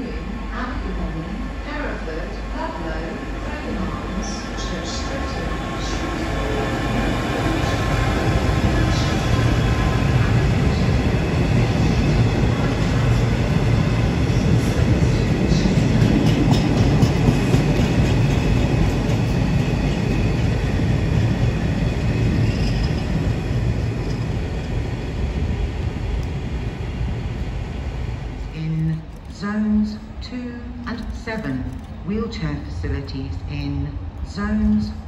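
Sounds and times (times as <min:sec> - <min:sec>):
freight train rumbling past: 0:00.0 - 0:29.1.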